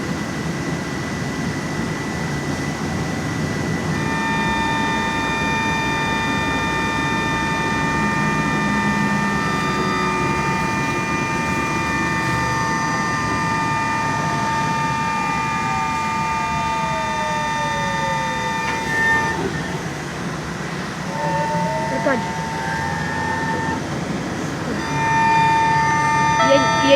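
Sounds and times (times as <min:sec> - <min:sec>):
electric motor whine: 0:00.0 - 0:26.9
road rumble: 0:00.0 - 0:26.9.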